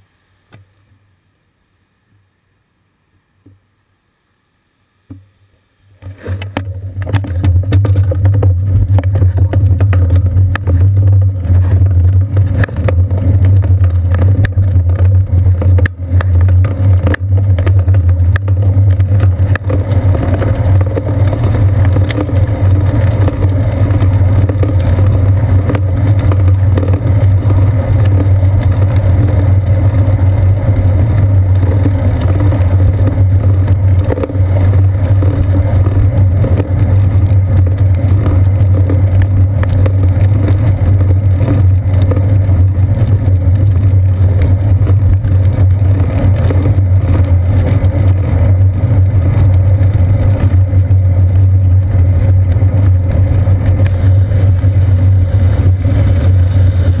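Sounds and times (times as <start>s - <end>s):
bicycle riding rumble: 5.8s - 57.0s.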